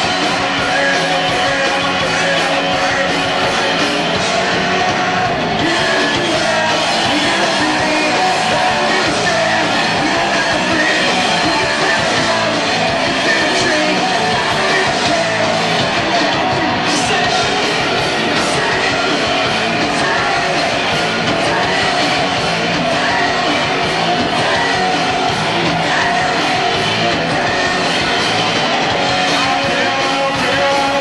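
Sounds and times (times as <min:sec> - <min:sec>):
loud distorted punk rock band: 0:00.0 - 0:31.0.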